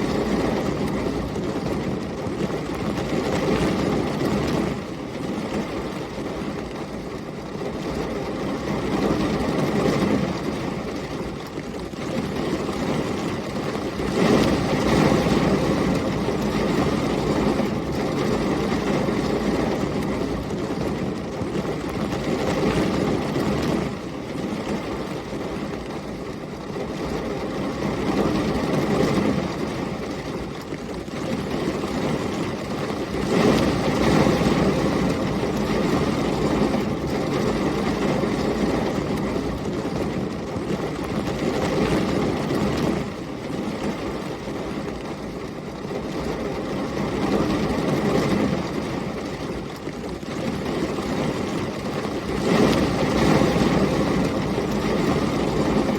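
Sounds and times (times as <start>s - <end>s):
heavy rain with storm wind: 0.0s - 55.9s.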